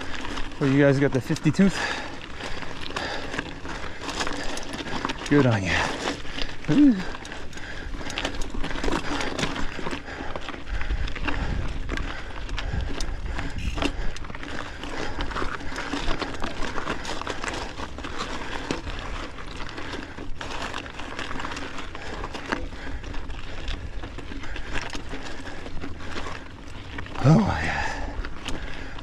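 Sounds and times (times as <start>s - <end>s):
bike clicks and rattles: 0.0s - 29.0s
tyres crunching over loose rock: 0.0s - 29.0s.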